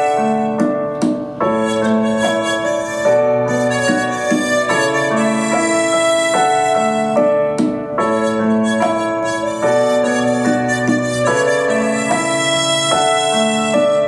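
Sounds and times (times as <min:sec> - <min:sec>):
piano accompaniment: 0:00.0 - 0:14.0
harmonica playing slow melody: 0:01.4 - 0:07.3, 0:08.0 - 0:14.0.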